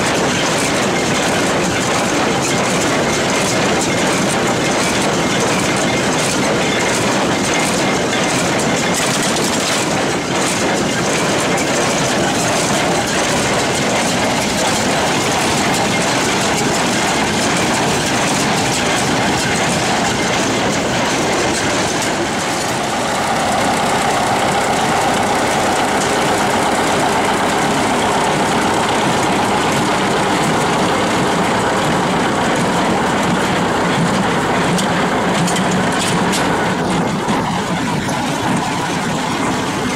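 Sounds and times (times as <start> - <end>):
farm machinery rattling clatter: 0.0 - 39.9.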